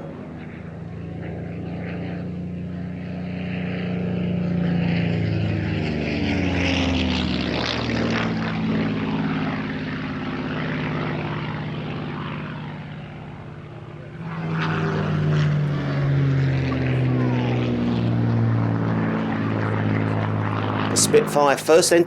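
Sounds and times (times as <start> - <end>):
propeller plane flying past: 0.0 - 22.0.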